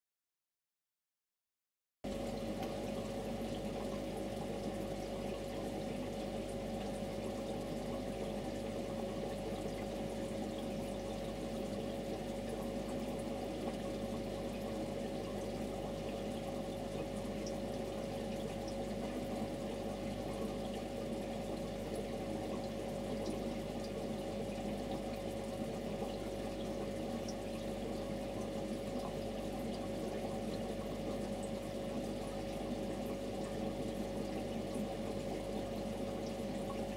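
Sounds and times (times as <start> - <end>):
filter hum: 2.1 - 36.9
water trickling and bubbling: 2.1 - 36.9.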